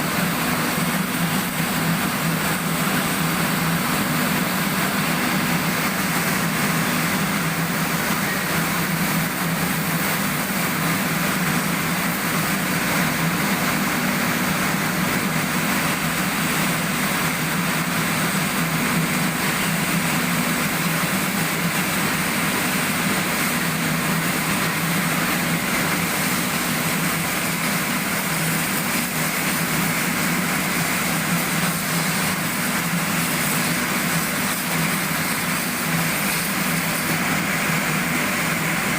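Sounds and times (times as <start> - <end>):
machinery droning and hissing: 0.0 - 38.9.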